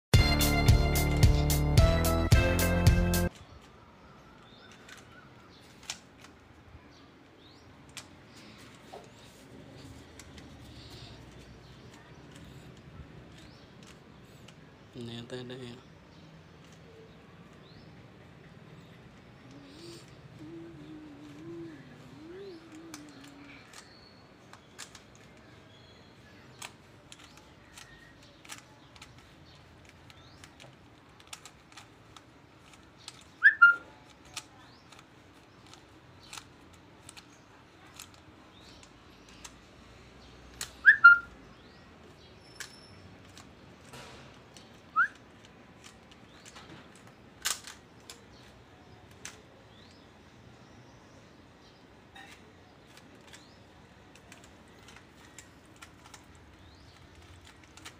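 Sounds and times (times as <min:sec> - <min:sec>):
plastic puzzle clicks: 0:04.4 - 0:09.2, 0:09.8 - 0:14.9, 0:16.1 - 0:17.7, 0:19.0 - 0:50.2, 0:52.1 - 0:57.9.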